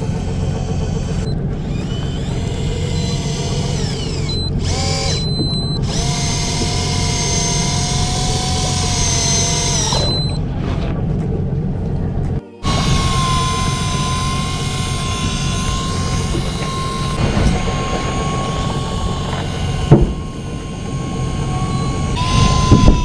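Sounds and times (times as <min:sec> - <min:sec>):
small electric motor whining: 0:00.0 - 0:10.4, 0:12.6 - 0:23.0
low engine rumble: 0:00.0 - 0:23.0.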